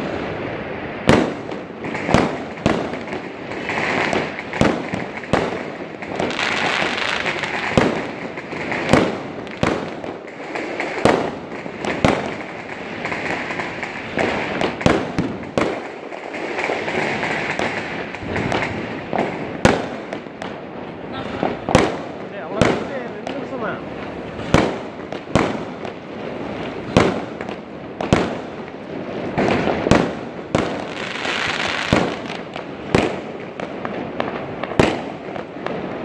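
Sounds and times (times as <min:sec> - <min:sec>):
firework bangs: 0:00.0 - 0:36.0
hiss of distant crackers: 0:00.0 - 0:36.0.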